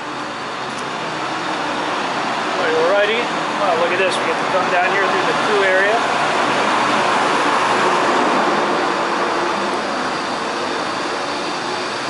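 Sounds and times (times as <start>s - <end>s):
ship ventilation and machinery rushing: 0.0s - 12.0s.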